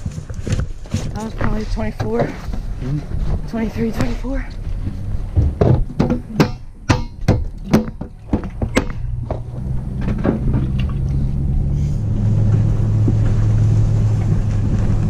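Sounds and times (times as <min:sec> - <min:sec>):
truck engine hum: 0:01.2 - 0:15.0.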